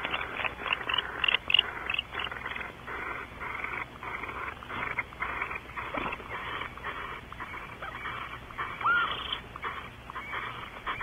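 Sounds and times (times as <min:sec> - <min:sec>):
barn owls hissing calls: 0:00.1 - 0:11.0.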